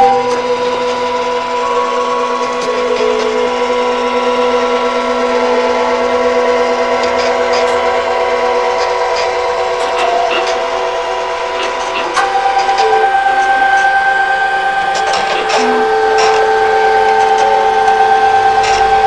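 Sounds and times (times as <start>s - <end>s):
stepper motor whine: 0.0s - 19.0s.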